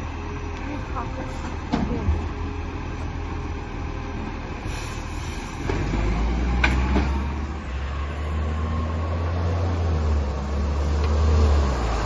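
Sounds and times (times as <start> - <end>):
garbage truck engine rumbling: 0.0 - 12.0.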